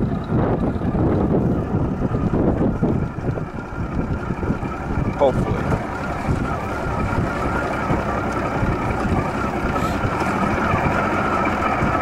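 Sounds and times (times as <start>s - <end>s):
wind noise on microphone: 0.0s - 12.0s.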